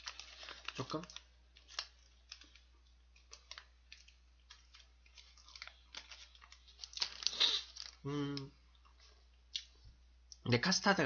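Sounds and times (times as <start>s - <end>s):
person chewing cake: 0.0s - 10.4s.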